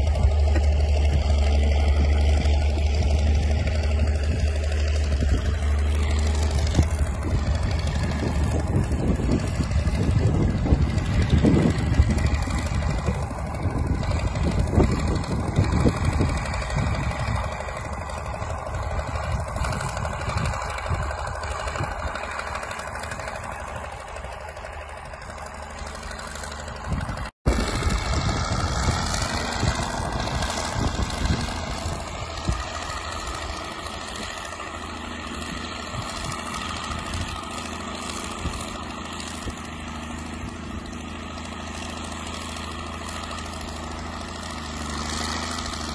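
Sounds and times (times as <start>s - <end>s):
engine running steadily: 0.0s - 45.9s
tractor diesel engine under load: 0.0s - 45.9s.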